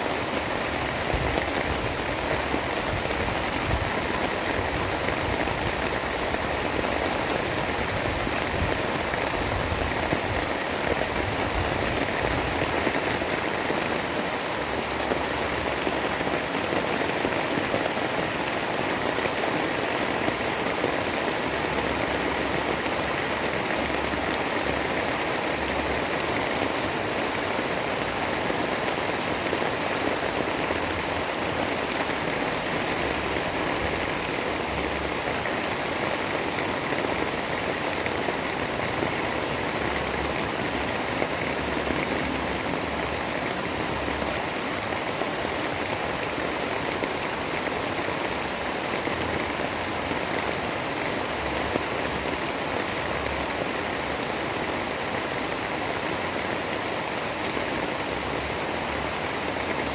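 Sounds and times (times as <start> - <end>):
rain rushing: 0.0 - 59.9.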